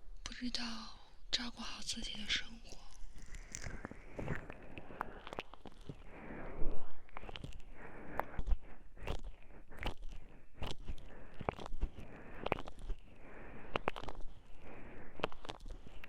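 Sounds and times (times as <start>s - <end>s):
crackles and clicks close up: 0.1s - 16.0s
soft rustling: 2.1s - 16.0s.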